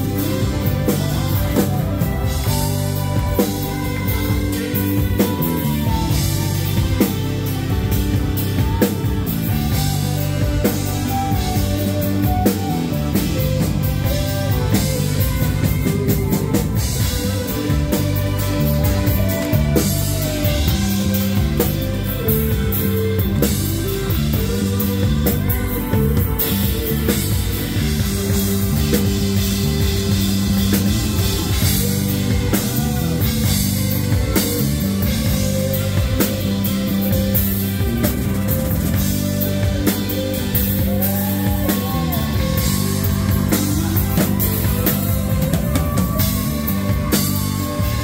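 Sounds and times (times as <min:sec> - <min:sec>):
live band playing: 0:00.0 - 0:48.0.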